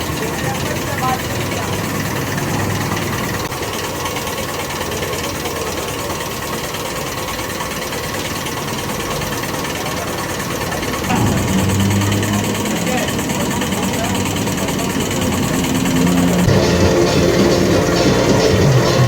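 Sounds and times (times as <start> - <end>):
motor running: 0.0 - 19.0.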